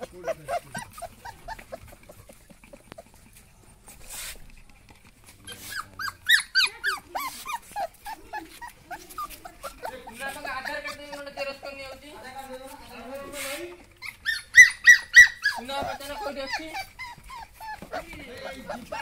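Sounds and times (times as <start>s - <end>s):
puppies whining: 0.0s - 19.0s.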